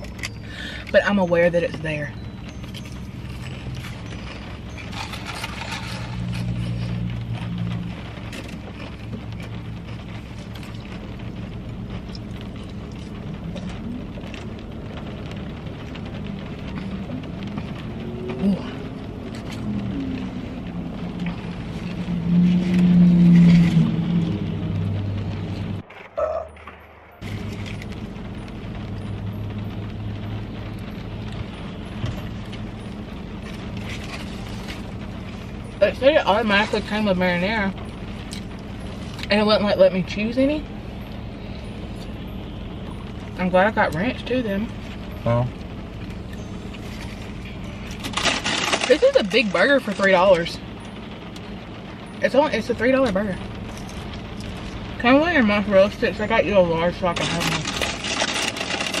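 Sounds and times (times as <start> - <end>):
car engine hum: 0.0 - 59.0.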